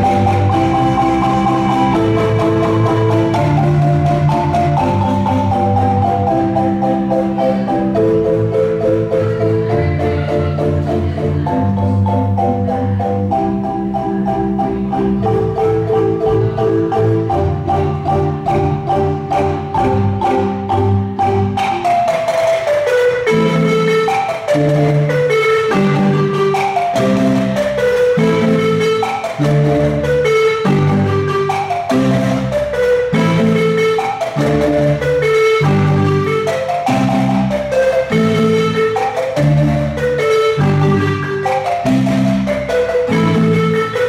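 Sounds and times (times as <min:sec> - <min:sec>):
marimba ensemble playing: 0:00.0 - 0:44.0.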